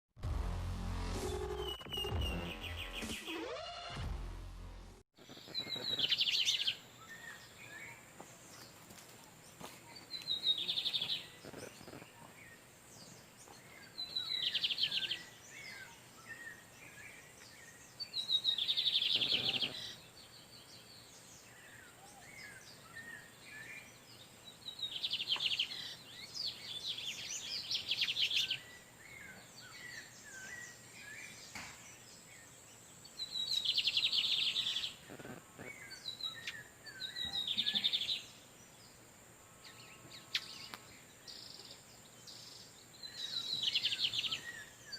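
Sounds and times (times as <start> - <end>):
birds singing buzzy trills: 5.2 - 8.8, 9.4 - 44.9
soft bird chirping: 5.2 - 8.8, 9.4 - 44.9.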